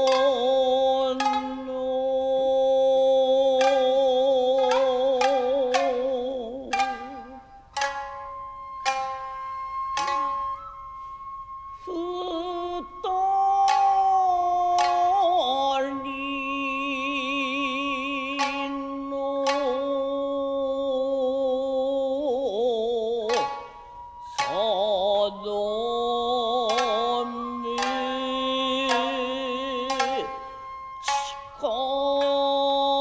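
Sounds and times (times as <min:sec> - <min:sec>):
person singing long wavering notes: 0:00.0 - 0:33.0
plucked shamisen strokes: 0:00.0 - 0:33.0.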